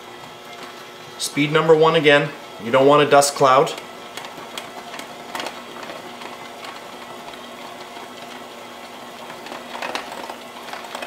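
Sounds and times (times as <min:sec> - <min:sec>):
electric hand mixer running: 0:00.0 - 0:11.0.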